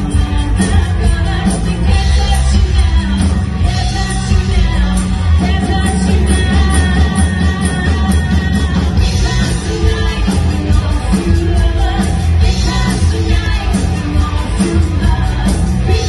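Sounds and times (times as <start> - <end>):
live rock-pop band playing: 0.0 - 16.0
woman singing: 0.0 - 16.0.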